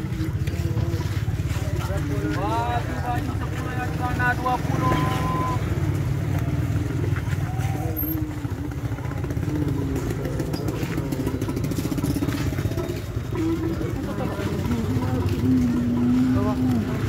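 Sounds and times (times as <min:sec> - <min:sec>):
faint voices: 0:00.0 - 0:17.0
motorcycle engine rumbling: 0:00.0 - 0:17.0.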